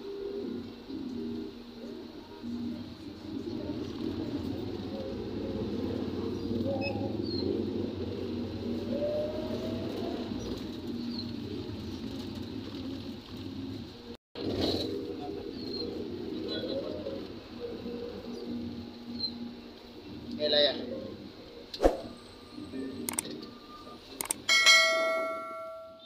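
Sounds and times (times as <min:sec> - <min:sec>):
vehicle engine and road noise: 0:02.4 - 0:24.5.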